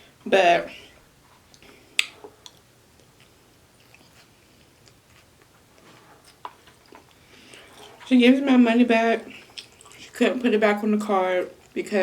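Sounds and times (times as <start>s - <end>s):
faint chewing: 1.2s - 12.0s.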